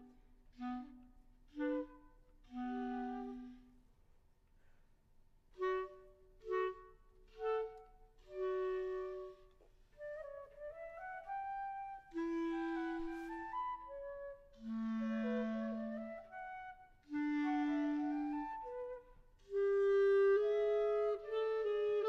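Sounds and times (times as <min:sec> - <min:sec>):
clarinet and woodwind duet: 0:00.0 - 0:04.8, 0:05.4 - 0:22.0.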